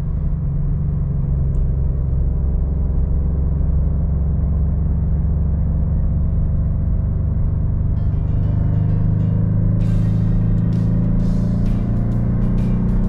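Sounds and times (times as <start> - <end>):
car engine drone from cabin: 0.0 - 13.0.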